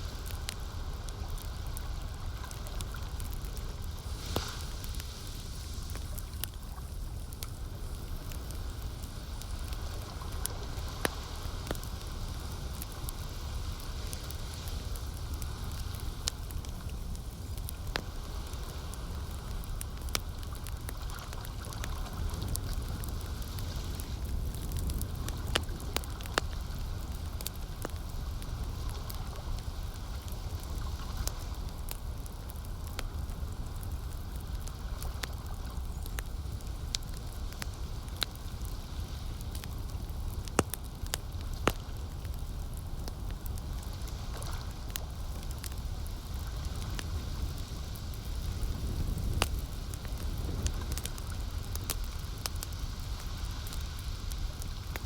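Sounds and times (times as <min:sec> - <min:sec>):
campfire crackling: 0:00.0 - 0:55.0
soft hiss: 0:00.0 - 0:55.0.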